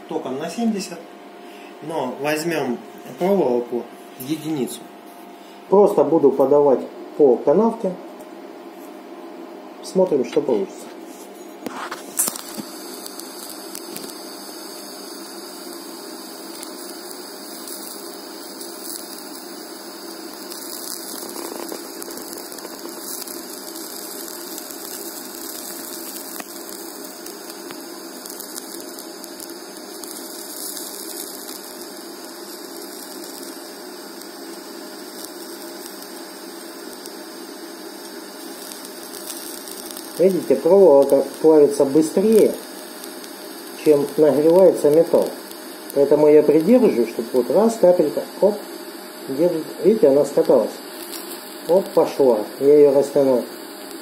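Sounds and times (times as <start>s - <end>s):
welding arc hissing and humming: 0.0s - 54.0s.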